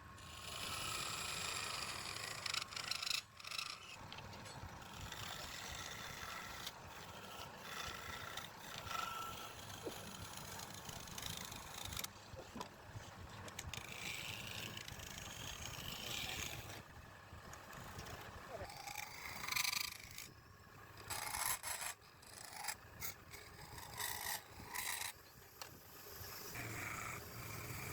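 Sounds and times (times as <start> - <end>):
tool scraping spinning wood: 0.0 - 27.9
wood lathe running: 0.2 - 16.8, 17.5 - 25.1.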